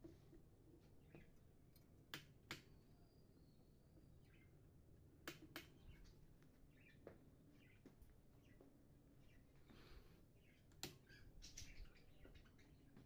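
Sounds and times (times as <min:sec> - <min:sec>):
birds chirping: 0:00.9 - 0:01.5, 0:02.5 - 0:13.0.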